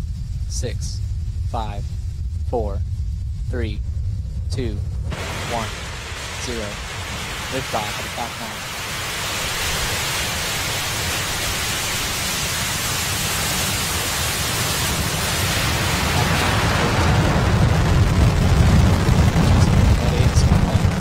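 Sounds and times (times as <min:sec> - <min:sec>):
deep crackling rumble: 0:00.0 - 0:21.0
rocket engines rushing: 0:00.0 - 0:21.0.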